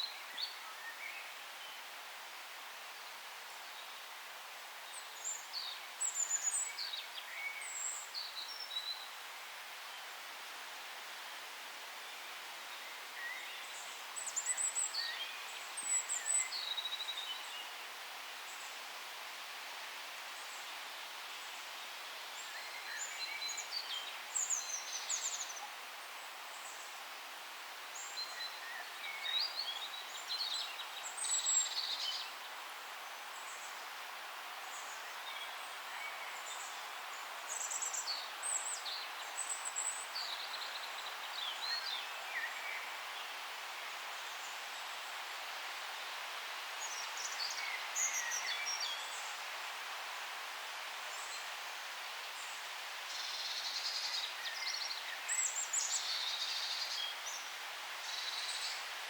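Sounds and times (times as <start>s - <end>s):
songbirds chirping: 0.0s - 59.0s
steady outdoor hiss: 0.0s - 59.0s.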